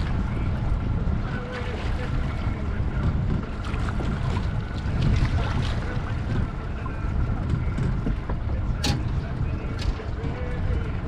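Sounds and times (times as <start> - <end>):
boat motor running: 0.0 - 11.0
wind rumbling on microphone: 0.0 - 11.0.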